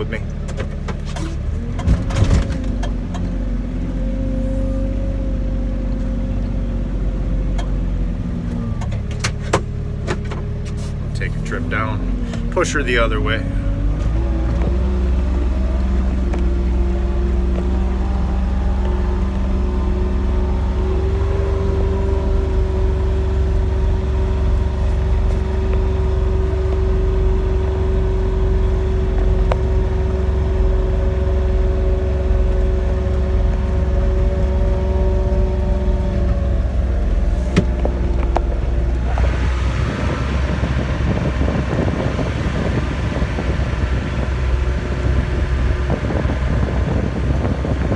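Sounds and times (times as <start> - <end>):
diesel engine rumbling with whine: 0.0 - 47.9.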